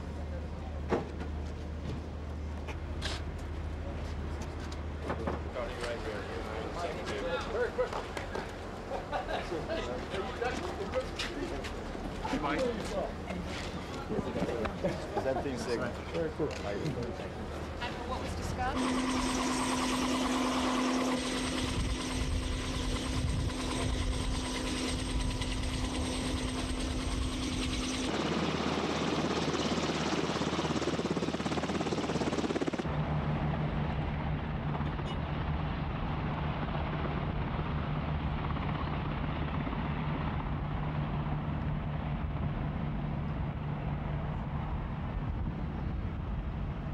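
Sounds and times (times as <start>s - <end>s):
aircraft engines running: 0.0s - 46.9s.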